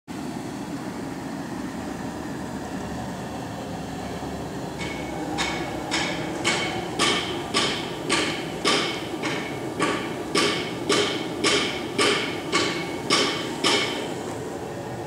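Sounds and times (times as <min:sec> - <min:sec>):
steady background noise: 0:00.1 - 0:15.0.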